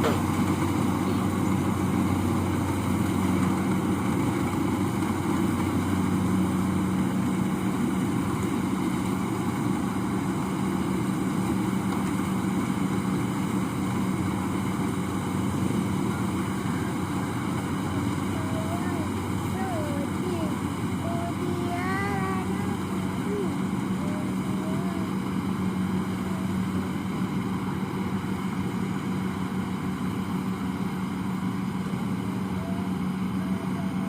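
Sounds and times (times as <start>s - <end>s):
harvester engine humming: 0.0s - 34.0s.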